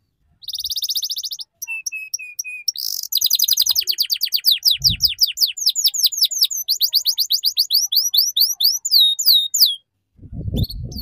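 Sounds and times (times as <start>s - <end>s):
canary trilling: 0.4s - 9.9s.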